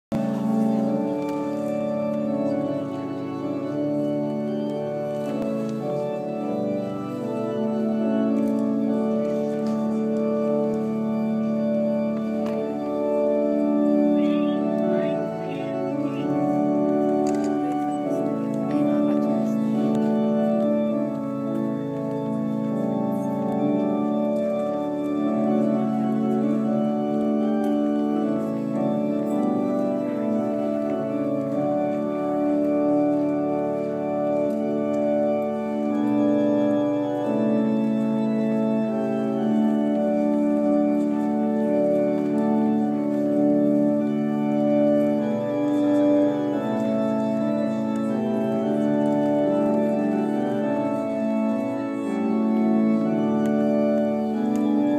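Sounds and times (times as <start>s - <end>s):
organ playing slow chords: 0.1s - 54.9s.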